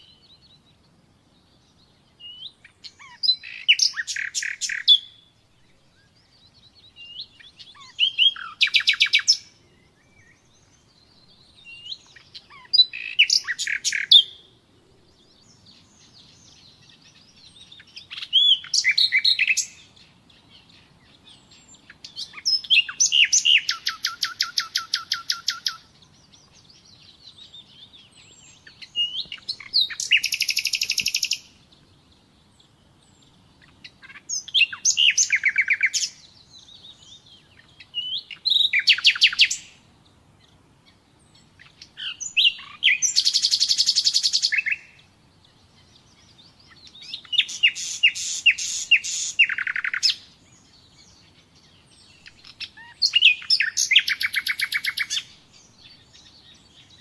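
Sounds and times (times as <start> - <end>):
nightingale singing: 0.0 - 57.0.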